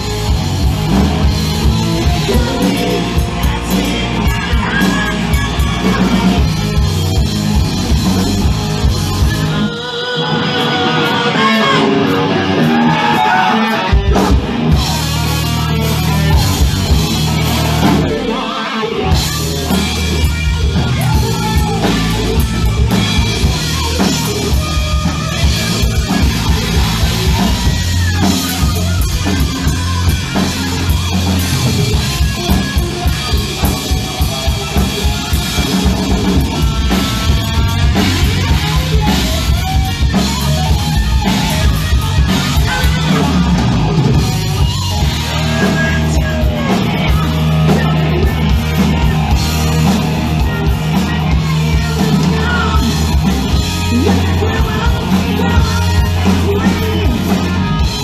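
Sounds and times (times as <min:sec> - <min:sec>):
bass guitar: 0:00.0 - 0:58.0
distorted electric guitar: 0:00.0 - 0:58.0
pounding drum kit: 0:00.0 - 0:58.0
man singing: 0:01.6 - 0:07.0, 0:07.8 - 0:40.1, 0:41.1 - 0:44.3, 0:45.0 - 0:58.0.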